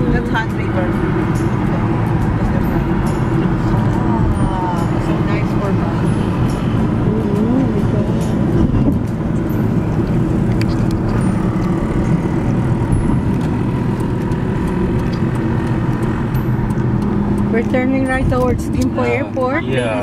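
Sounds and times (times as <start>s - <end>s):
car interior road noise: 0.0s - 20.0s.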